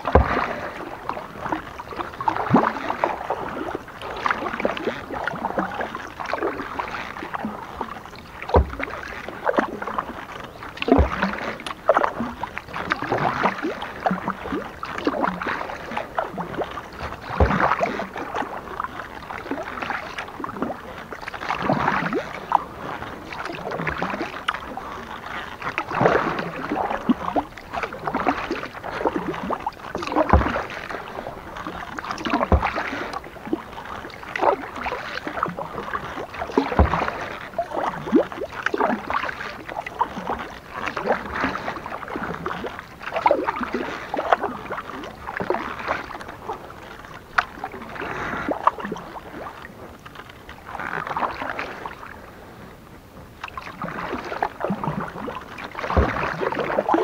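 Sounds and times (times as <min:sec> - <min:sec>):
paddle splashing in water: 0:00.0 - 0:57.0.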